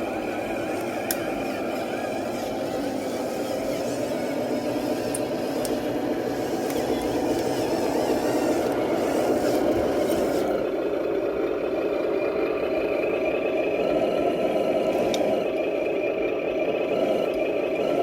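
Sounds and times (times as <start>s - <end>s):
toy truck motor drone: 0.0s - 18.0s.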